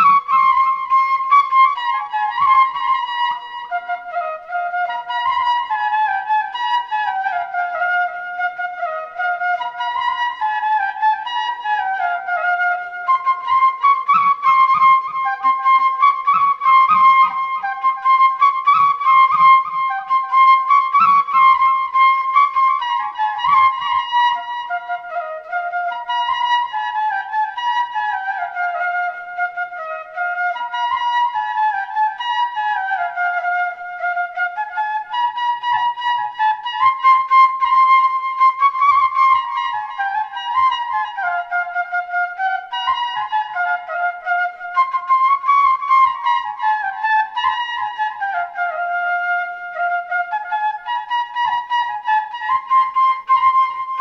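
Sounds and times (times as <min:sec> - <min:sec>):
solo flute melody: 0:00.0 - 0:54.0.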